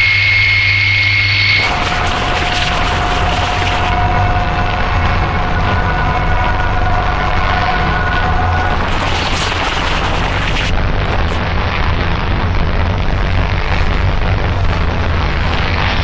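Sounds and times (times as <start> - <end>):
steady low rumble: 0.3 - 16.0
distorted noise music: 1.4 - 16.0.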